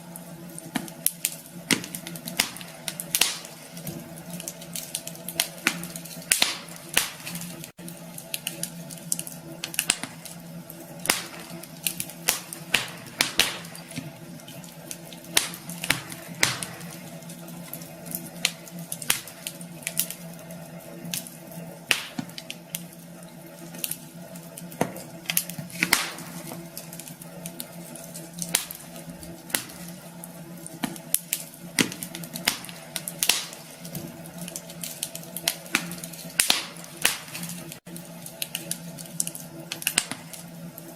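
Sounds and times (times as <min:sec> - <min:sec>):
steady low hum: 0:00.0 - 0:40.9
wood fire crackling: 0:00.0 - 0:40.9.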